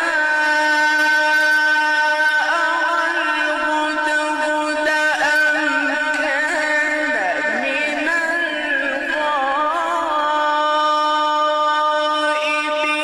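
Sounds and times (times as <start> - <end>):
ornamented vocal melody: 0.0 - 13.0.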